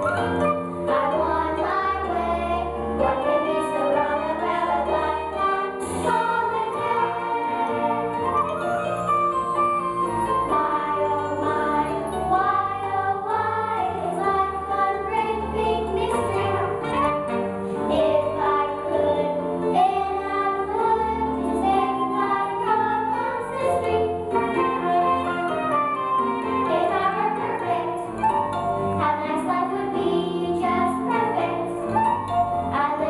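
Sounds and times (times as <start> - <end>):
instrumental accompaniment: 0.0 - 33.0.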